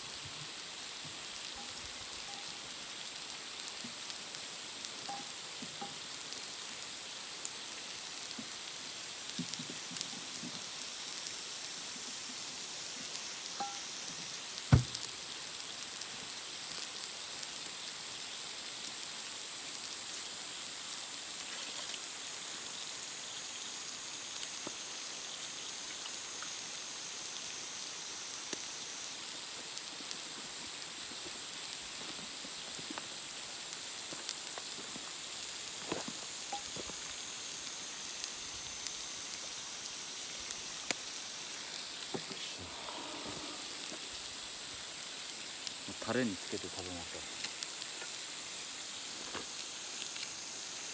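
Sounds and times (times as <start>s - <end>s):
campfire crackles: 0.0s - 50.9s
steak sizzling in a pan: 0.0s - 50.9s.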